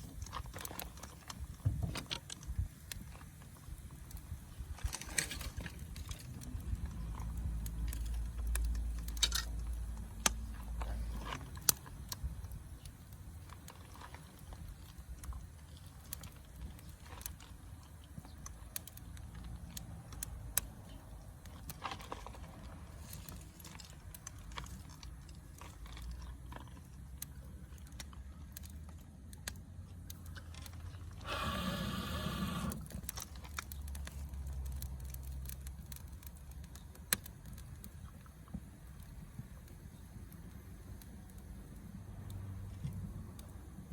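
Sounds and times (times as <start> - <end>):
campfire crackling: 0.0 - 43.9.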